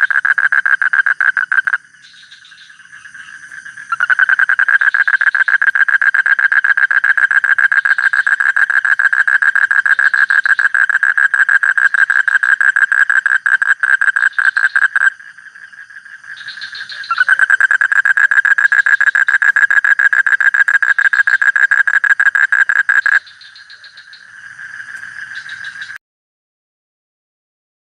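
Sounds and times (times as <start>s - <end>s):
frog calling in pulsing trills: 0.0s - 26.0s.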